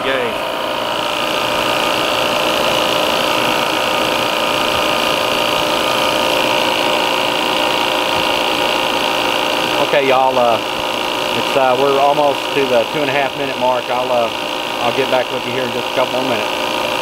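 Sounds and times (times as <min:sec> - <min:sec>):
compressor humming with high whine: 0:00.0 - 0:17.0.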